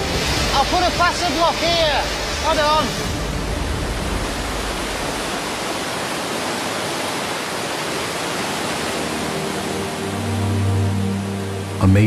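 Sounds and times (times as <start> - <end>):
rushing river rapids: 0.0 - 11.8.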